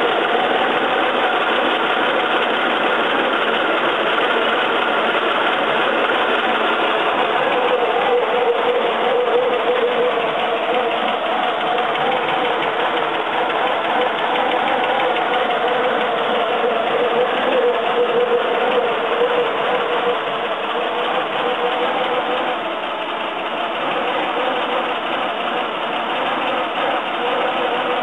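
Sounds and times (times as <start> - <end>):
car engine running steadily: 0.0 - 28.0.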